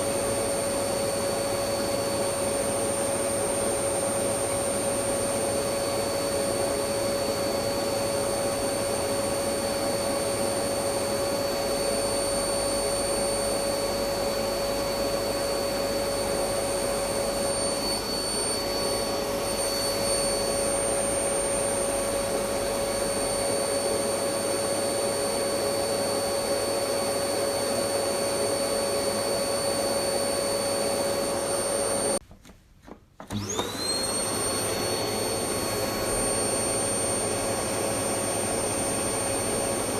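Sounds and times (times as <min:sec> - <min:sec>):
vacuum cleaner running: 0:00.0 - 0:32.2, 0:33.2 - 0:39.9.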